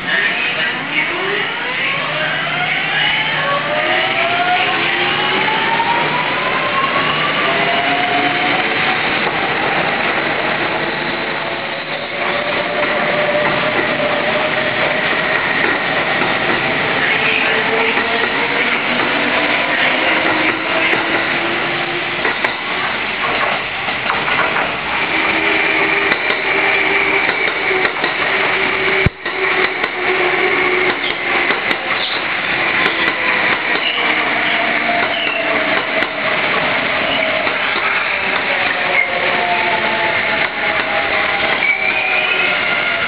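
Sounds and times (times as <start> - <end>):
train wheels on rails: 3.4 - 43.0.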